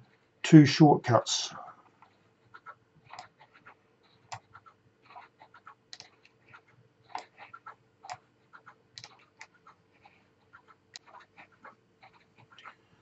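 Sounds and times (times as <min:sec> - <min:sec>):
computer mouse clicks: 0:01.9 - 0:12.8.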